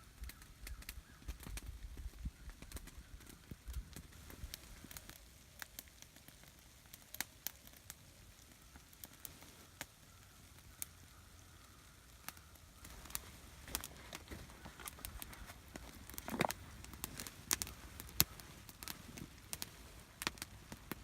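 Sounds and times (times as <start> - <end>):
campfire crackling: 0.0 - 21.0
rustle: 0.0 - 21.0.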